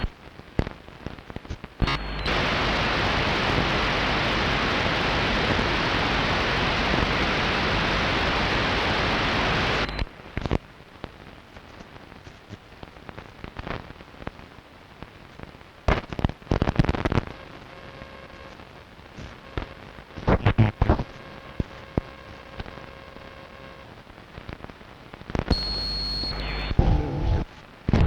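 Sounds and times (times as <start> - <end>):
crackling interference bursts: 0.0 - 28.0
radio static hiss: 0.0 - 28.0.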